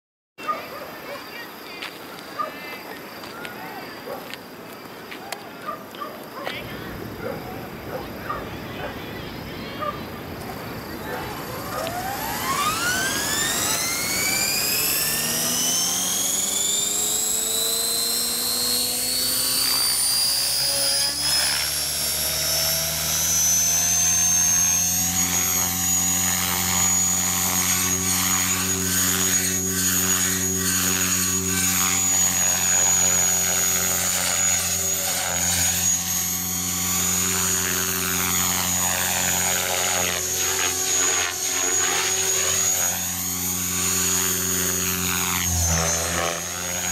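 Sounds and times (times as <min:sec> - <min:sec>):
model helicopter whine: 0:00.6 - 0:46.9
rotor hum: 0:05.7 - 0:46.9.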